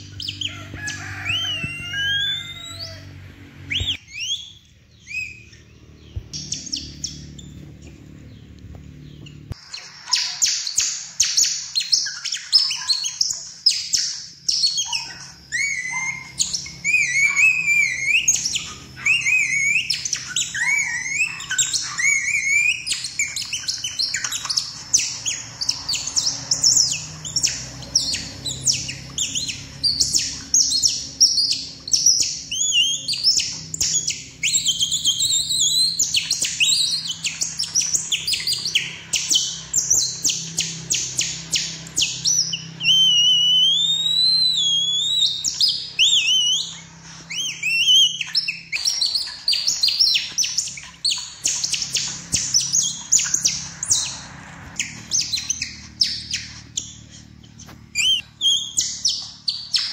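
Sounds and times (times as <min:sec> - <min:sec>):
birds singing and chirping: 0:00.0 - 0:59.9
long wavering whistled birdsong: 0:00.0 - 0:59.9.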